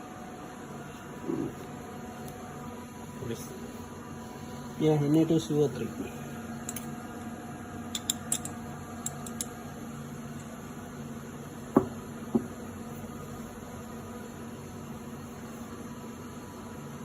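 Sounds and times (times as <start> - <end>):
hum of running equipment: 0.0 - 17.0.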